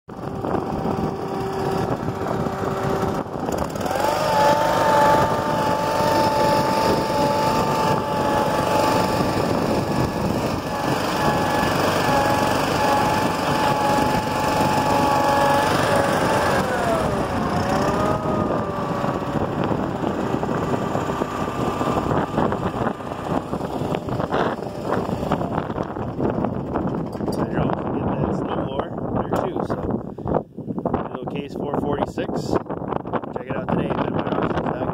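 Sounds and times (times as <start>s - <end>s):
garden tractor engine running: 0.1s - 28.4s.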